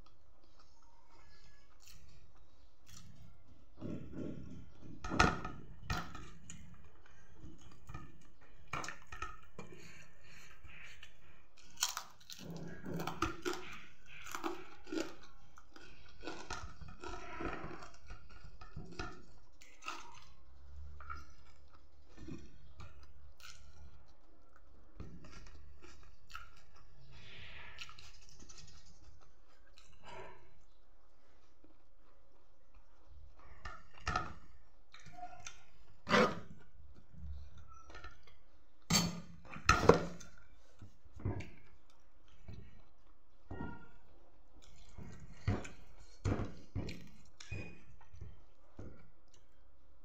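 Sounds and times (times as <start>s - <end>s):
person chewing food: 0.0s - 4.8s, 5.8s - 50.0s.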